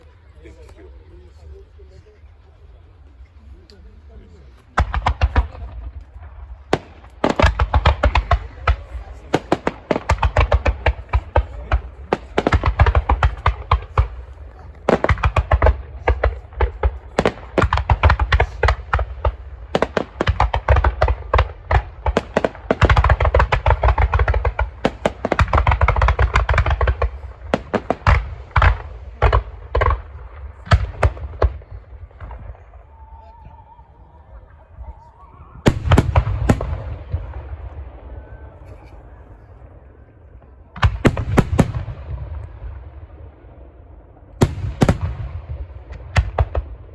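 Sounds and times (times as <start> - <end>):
fireworks bangs and booms: 4.0 - 46.9.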